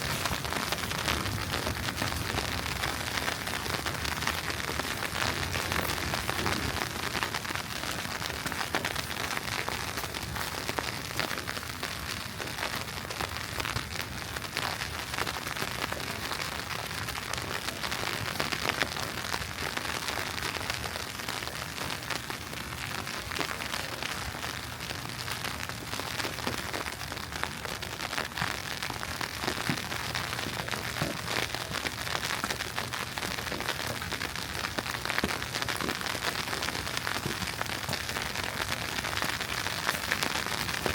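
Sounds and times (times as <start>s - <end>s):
wet snow ticking on surfaces: 0.0s - 40.9s.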